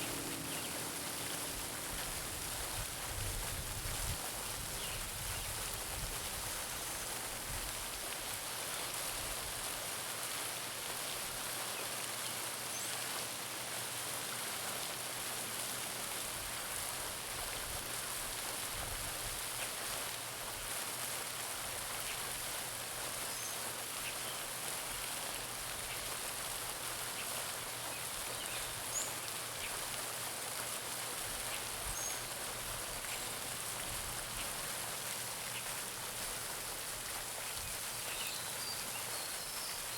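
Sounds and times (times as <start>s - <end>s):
pond fountain splashing: 0.0s - 39.9s.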